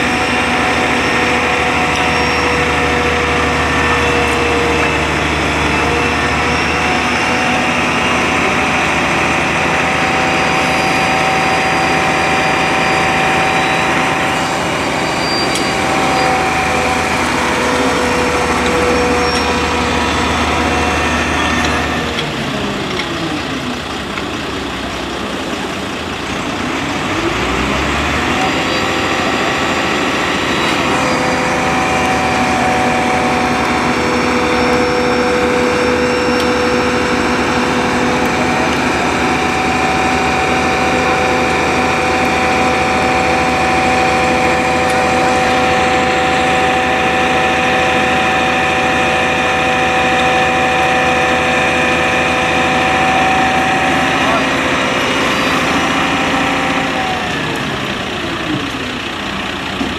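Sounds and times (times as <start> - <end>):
steady high whine: 0.0 - 59.8
diesel engine revving: 0.0 - 59.9.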